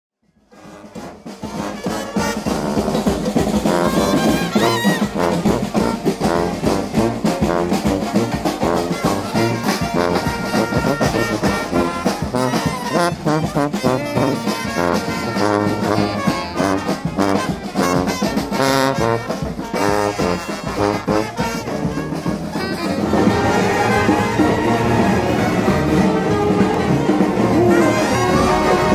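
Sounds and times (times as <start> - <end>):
trumpets trombone and saxophone: 0.4 - 28.9
snare drum: 0.5 - 28.9.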